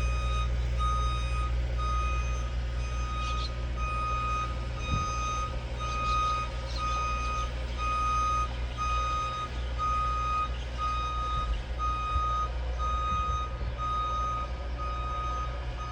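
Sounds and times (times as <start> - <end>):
reversing alarm beeping: 0.0 - 15.9
vehicle engine rumble: 0.0 - 15.9.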